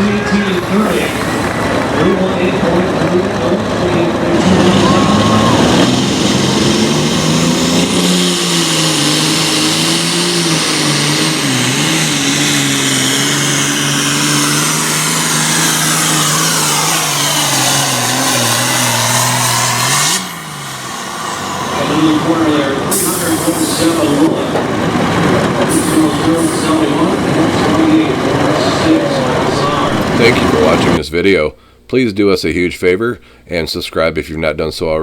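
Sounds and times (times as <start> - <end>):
high whine: 0.0 - 31.0
tractor diesel engine running hard: 0.0 - 31.0.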